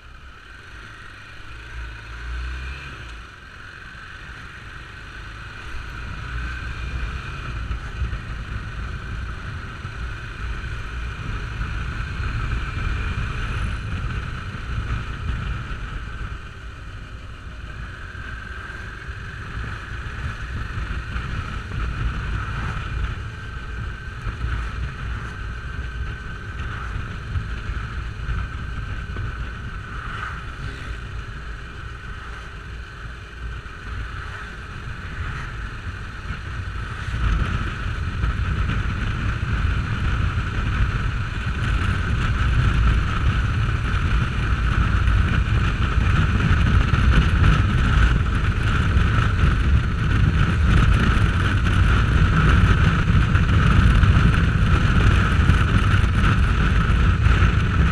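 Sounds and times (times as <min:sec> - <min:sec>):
motorcycle engine running: 0:00.0 - 0:57.9
wind buffeting microphone: 0:04.6 - 0:57.9.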